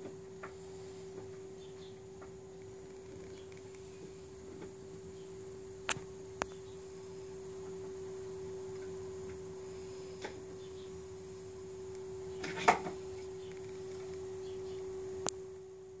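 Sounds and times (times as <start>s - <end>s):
electronic hum: 0.0s - 16.0s.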